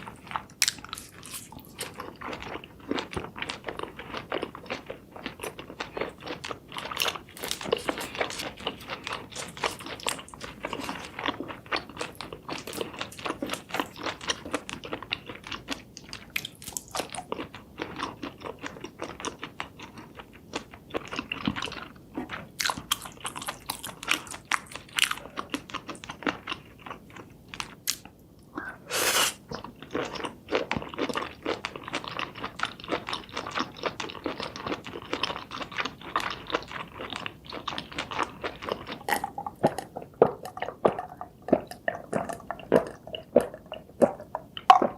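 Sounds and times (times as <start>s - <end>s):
crunching and chewing food: 0.0s - 28.6s, 29.4s - 44.9s.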